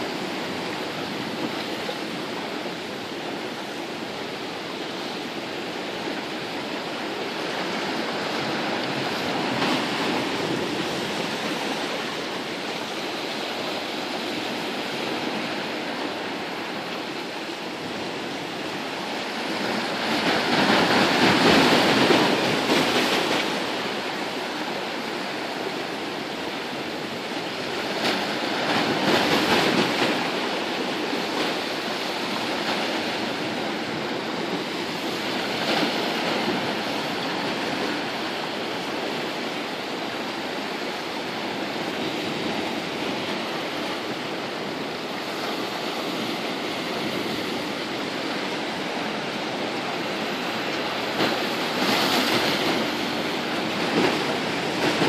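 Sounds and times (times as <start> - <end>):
waves breaking on rocks: 0.0 - 55.0.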